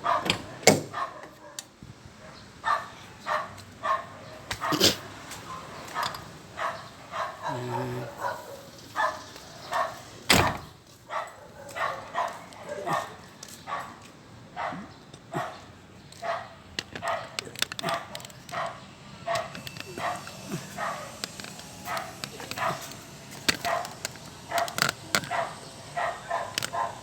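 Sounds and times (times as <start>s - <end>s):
dog barking: 0.0s - 27.0s.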